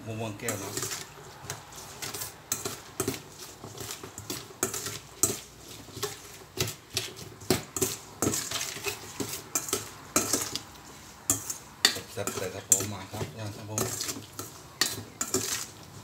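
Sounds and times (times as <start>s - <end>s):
metal spoon scraping steel bowl: 0.4s - 16.0s.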